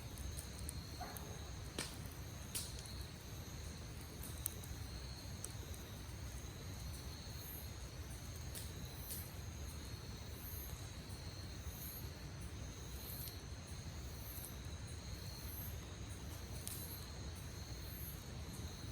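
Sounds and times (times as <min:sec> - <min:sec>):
campfire crackles: 0:00.0 - 0:18.9
high insect chirp: 0:00.0 - 0:18.9
insects trilling: 0:00.0 - 0:18.9.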